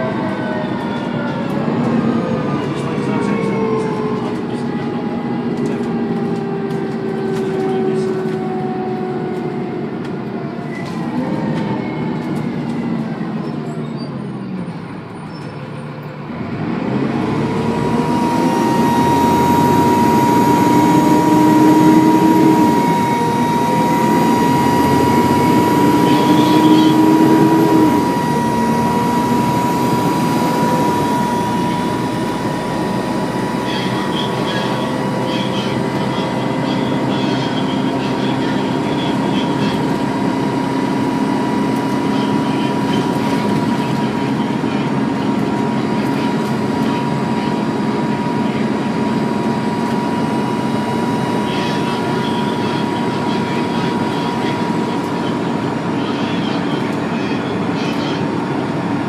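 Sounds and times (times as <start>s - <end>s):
high turbo whine: 0.0s - 15.3s, 16.2s - 59.0s
bus engine: 0.0s - 59.0s.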